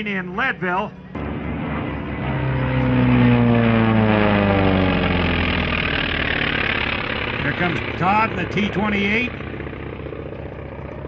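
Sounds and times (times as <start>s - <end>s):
propeller airplane flying past: 0.0s - 11.0s.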